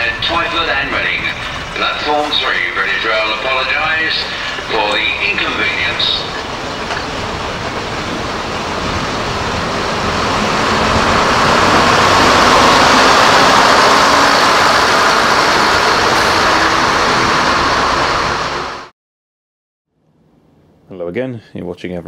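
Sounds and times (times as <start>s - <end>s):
train passing close by: 0.0s - 18.9s.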